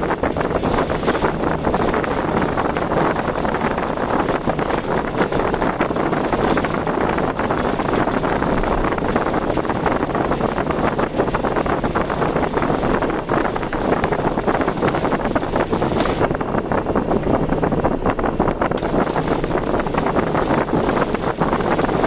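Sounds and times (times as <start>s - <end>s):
car road and wind noise: 0.0s - 22.0s
wind buffeting microphone: 0.0s - 22.0s.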